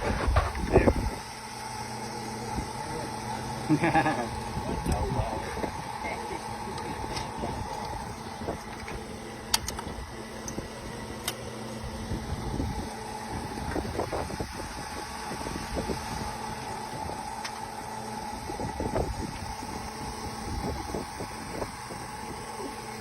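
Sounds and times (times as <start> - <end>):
drilling rig engine drone: 0.0 - 23.0.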